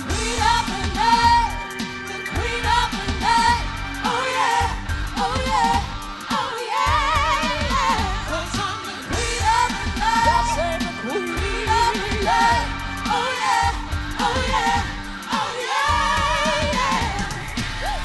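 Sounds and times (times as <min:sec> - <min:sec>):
backing music with steady beat: 0:00.0 - 0:18.0
female group singing pop: 0:00.0 - 0:18.0.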